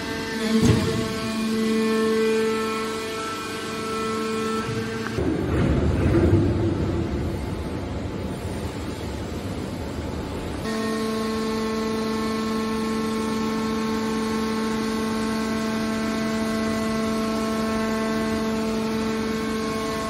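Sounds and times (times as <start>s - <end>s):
hydraulic power unit humming: 0.0s - 20.0s.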